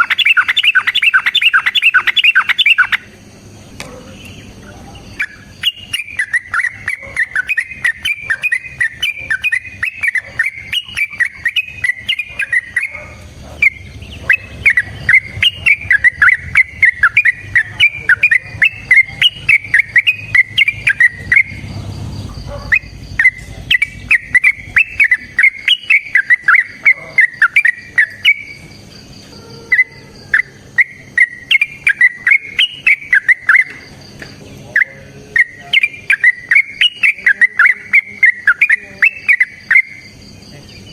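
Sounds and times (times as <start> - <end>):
bird singing bubbly chattering notes: 0.0 - 3.6, 4.2 - 40.9.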